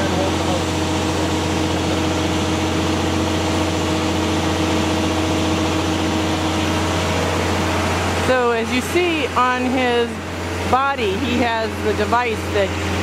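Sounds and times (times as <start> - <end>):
hydraulic hum: 0.0 - 13.0
truck engine running: 0.0 - 13.0.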